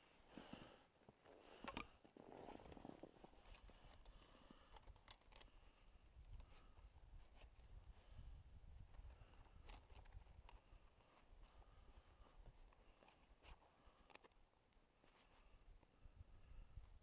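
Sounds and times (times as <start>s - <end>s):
faint rustling: 0.0s - 17.0s.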